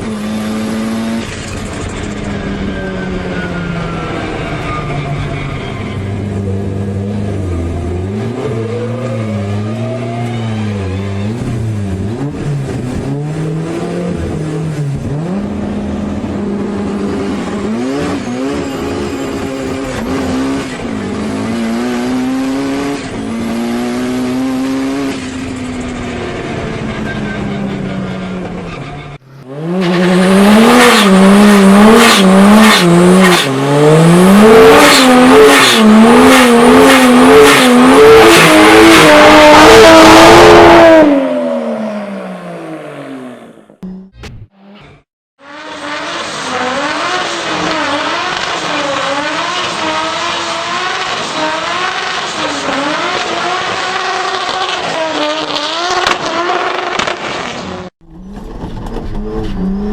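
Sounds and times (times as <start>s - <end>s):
turbocharged car engine revving: 0.0s - 59.9s.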